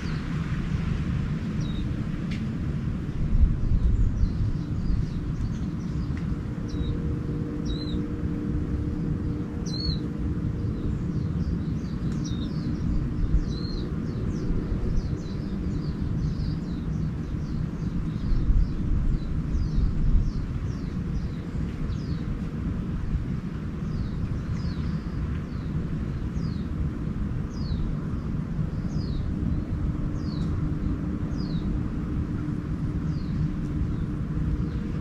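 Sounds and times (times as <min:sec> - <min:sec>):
small birds chirping: 0:00.0 - 0:02.4, 0:03.0 - 0:35.0
faint steady drone: 0:00.0 - 0:35.0
low outdoor rumble: 0:00.0 - 0:35.0.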